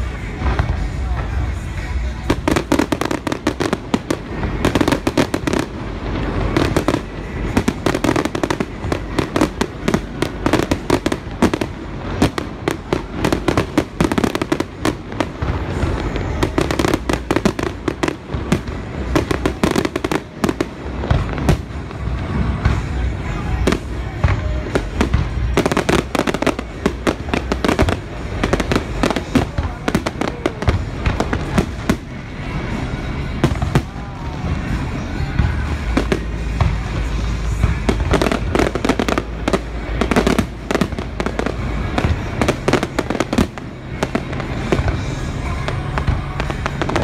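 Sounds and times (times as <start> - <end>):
fireworks bursts and crackling: 0.0 - 47.0.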